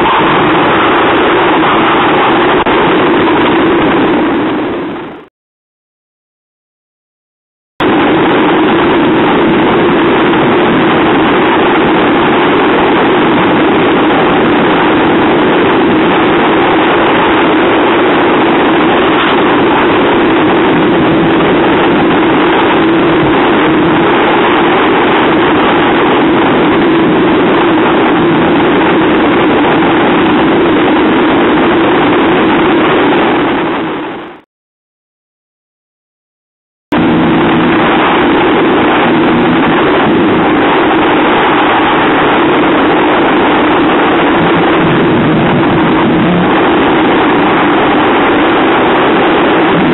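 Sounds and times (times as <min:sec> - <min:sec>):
rush of wind and sea: 0:00.0 - 0:05.3, 0:07.8 - 0:34.4, 0:36.9 - 0:49.9.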